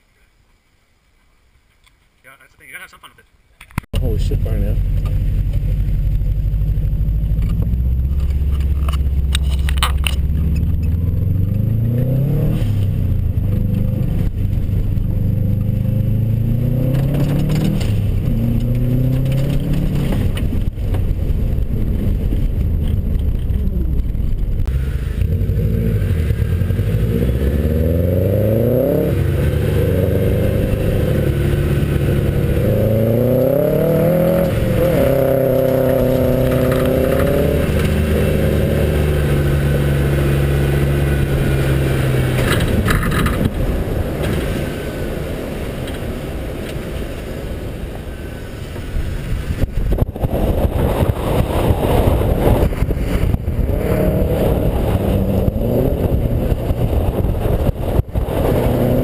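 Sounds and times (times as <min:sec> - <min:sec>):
car engine revving: 0:04.0 - 0:45.9, 0:50.0 - 0:59.0.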